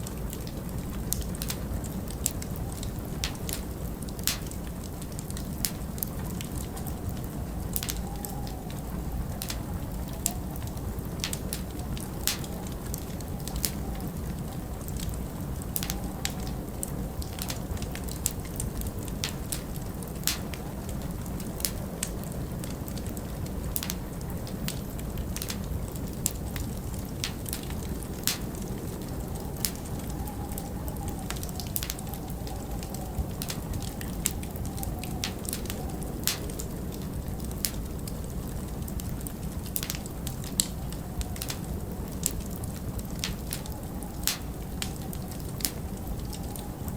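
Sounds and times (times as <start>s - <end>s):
log fire crackling and popping: 0.0s - 46.9s
low wind rumble: 0.0s - 46.9s
wavering wind howl: 0.0s - 46.9s.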